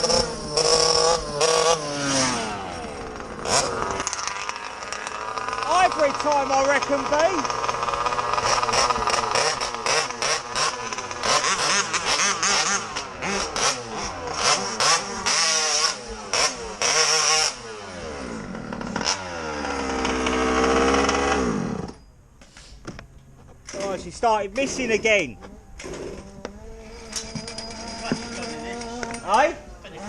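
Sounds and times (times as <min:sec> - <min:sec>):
two-stroke engine revving with cracks: 0:00.0 - 0:22.0, 0:25.8 - 0:30.0.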